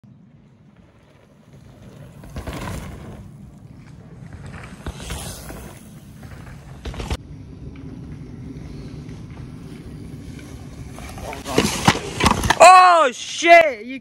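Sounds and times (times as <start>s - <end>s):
bike tyres rushing on dirt: 0.1s - 13.1s.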